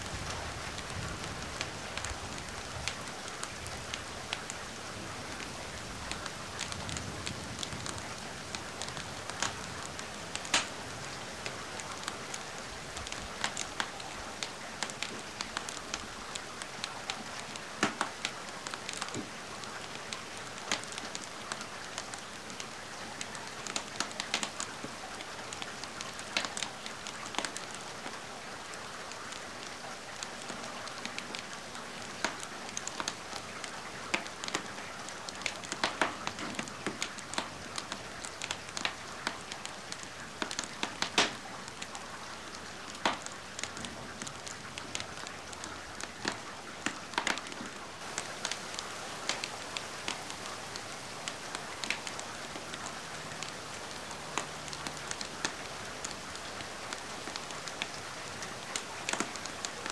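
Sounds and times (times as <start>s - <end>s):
steady rain falling: 0.0s - 59.9s
wood fire crackling: 0.0s - 59.9s.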